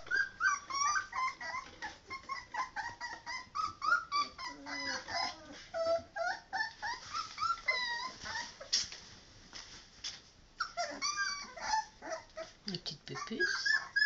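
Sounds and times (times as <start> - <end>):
puppies whimpering and yipping: 0.0 - 8.7, 10.6 - 14.0.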